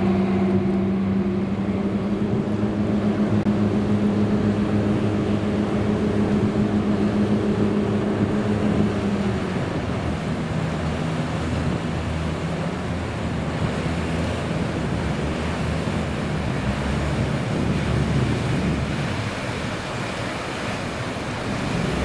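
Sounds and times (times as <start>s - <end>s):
ferry engine humming: 0.0s - 22.0s
rushing water: 0.0s - 22.0s
wind: 0.0s - 22.0s.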